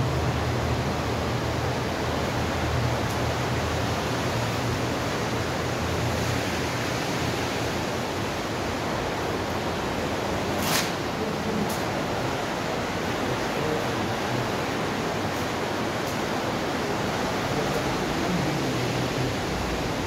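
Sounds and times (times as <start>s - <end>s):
water rushing through echoing pipe: 0.0s - 20.0s.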